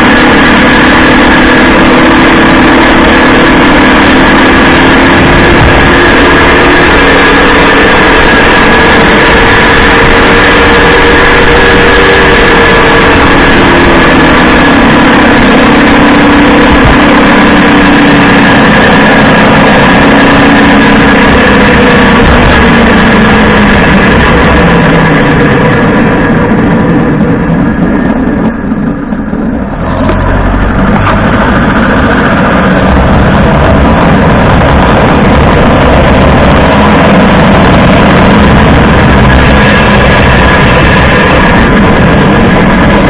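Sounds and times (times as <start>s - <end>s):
rear differential rattling: 0.0s - 43.0s
tyre road noise: 0.0s - 43.0s
van drivetrain whine: 0.0s - 43.0s.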